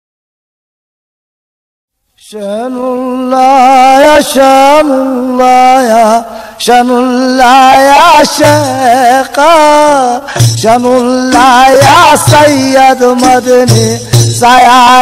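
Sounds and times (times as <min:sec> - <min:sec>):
man chanting devotional melody: 0:02.2 - 0:15.0.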